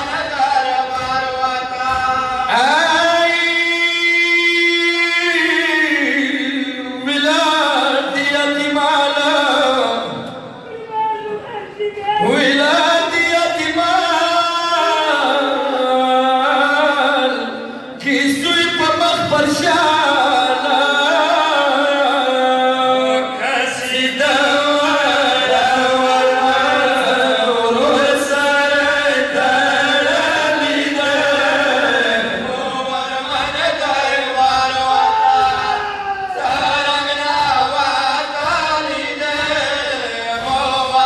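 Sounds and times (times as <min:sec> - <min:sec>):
men chanting into microphones: 0:00.0 - 0:10.7, 0:12.0 - 0:41.0.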